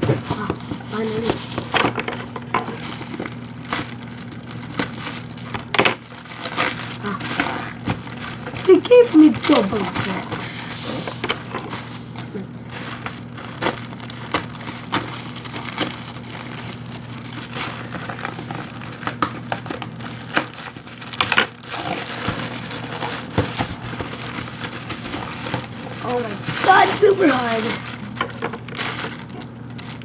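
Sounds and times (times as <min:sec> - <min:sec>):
packaging crinkling: 0:00.0 - 0:30.0.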